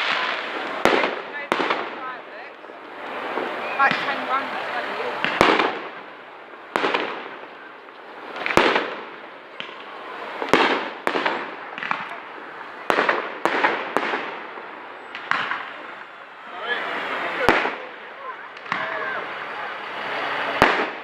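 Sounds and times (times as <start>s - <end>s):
fireworks exploding: 0.0s - 21.0s.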